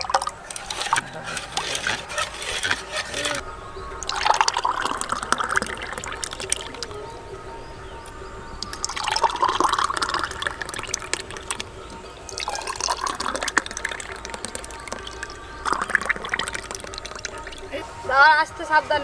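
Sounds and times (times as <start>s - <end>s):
ice ticking against glass: 0.0s - 3.4s, 4.0s - 7.1s, 8.0s - 17.8s
thick milkshake pouring: 0.0s - 3.4s, 4.0s - 7.0s, 8.6s - 17.7s.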